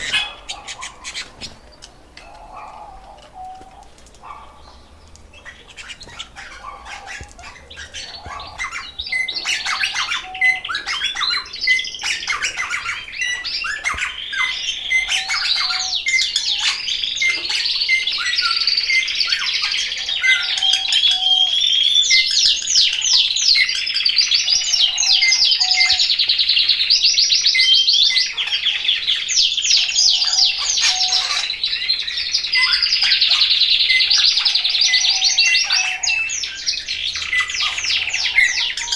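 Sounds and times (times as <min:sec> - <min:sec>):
canaries singing: 0:00.0 - 0:38.9.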